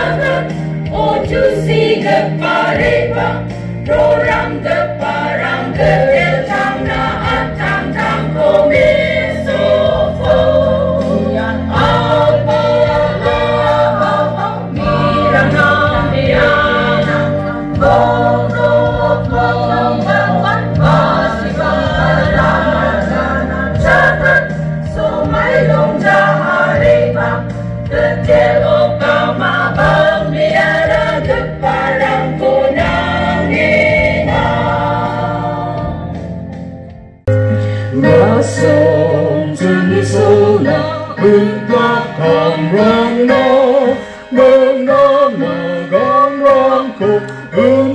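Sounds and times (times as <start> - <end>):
choir singing a hymn: 0.0 - 36.6, 37.9 - 47.9.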